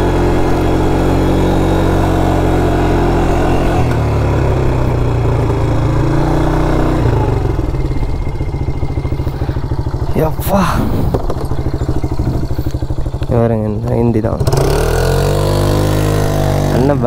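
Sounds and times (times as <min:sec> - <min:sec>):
quad bike engine revving: 0:00.0 - 0:17.0.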